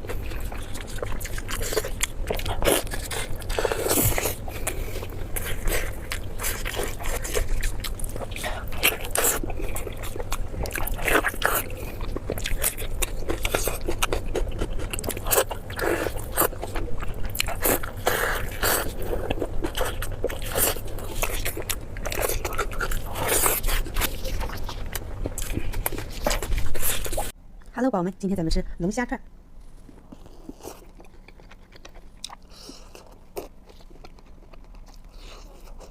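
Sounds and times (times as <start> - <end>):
crunchy chewing: 0.0 - 27.4, 29.6 - 35.9.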